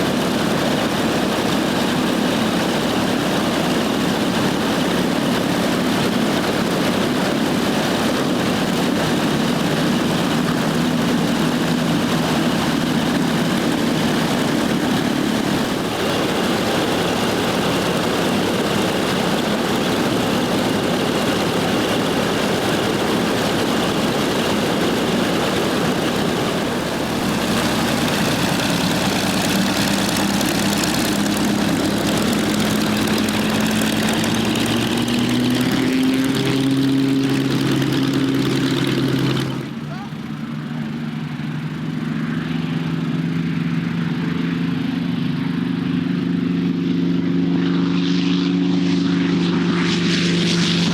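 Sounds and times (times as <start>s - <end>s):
propeller aircraft engine running: 0.0s - 50.9s.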